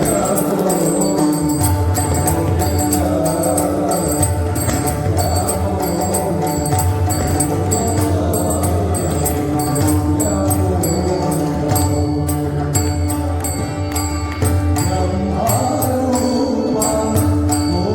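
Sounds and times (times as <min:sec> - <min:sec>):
drum playing a steady pattern: 0:00.0 - 0:17.9.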